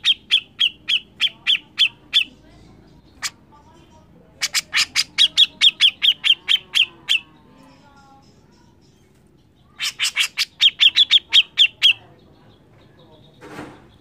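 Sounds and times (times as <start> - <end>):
bulbul harsh chatter: 0.0 - 14.0.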